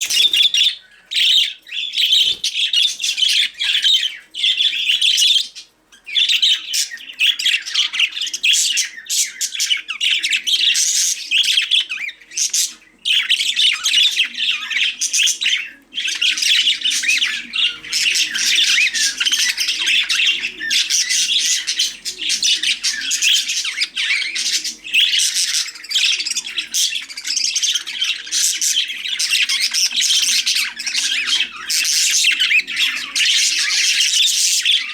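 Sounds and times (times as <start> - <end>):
budgerigars chattering and squawking: 0.0 - 34.9.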